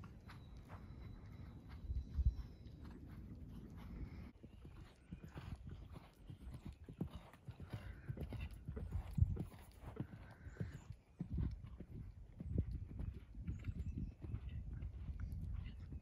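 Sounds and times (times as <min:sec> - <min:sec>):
horse hoofbeats on dirt: 0:00.0 - 0:16.0.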